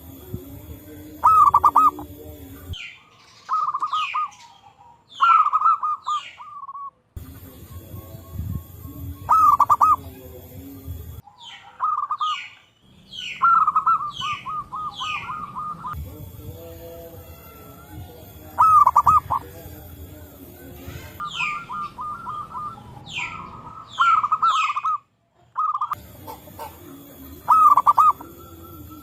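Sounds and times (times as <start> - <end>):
doves cooing: 0.0 - 29.0
high falling bird chirps: 1.0 - 16.0, 16.6 - 19.6, 20.8 - 29.0.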